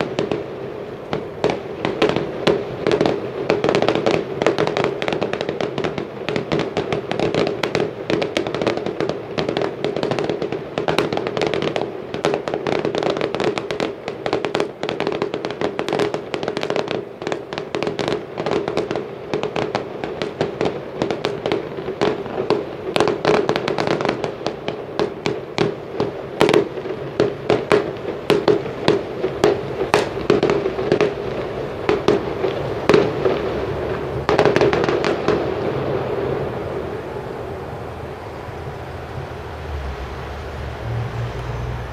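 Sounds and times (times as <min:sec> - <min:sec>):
distant fireworks bangs and crackles: 0:00.0 - 0:41.9.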